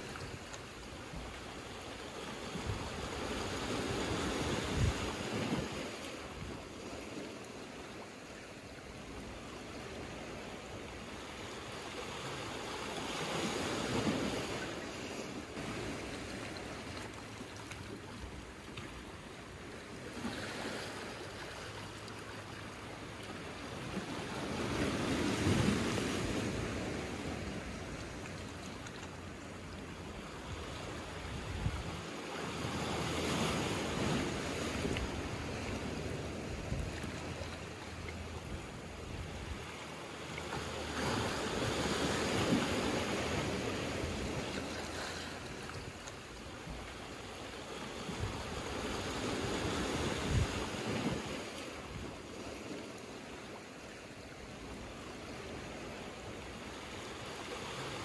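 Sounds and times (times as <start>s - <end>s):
sea waves washing over rocks: 0.0s - 58.0s.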